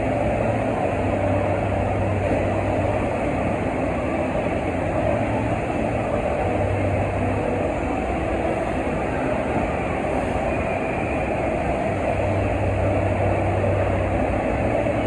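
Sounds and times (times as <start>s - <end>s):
low pump hum: 0.0s - 15.0s.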